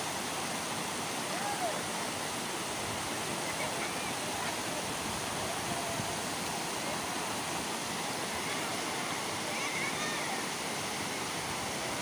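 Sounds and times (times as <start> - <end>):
water rushing over weir steps: 0.0 - 12.0.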